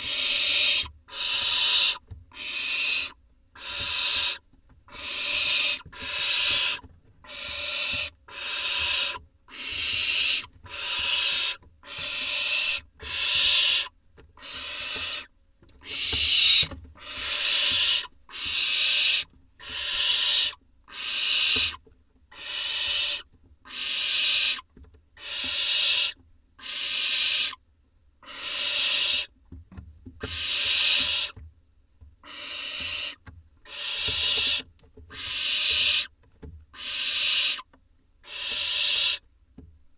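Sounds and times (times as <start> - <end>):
owl nestlings hissing calls: 0.0 - 27.6, 28.2 - 29.3, 30.2 - 31.4, 32.2 - 36.1, 36.7 - 39.2.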